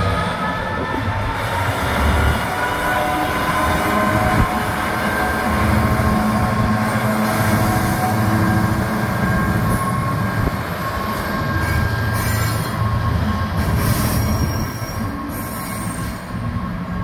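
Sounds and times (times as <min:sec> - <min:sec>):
diesel locomotive engine: 0:00.0 - 0:17.0
high-pitched wheel squeal: 0:02.0 - 0:16.5.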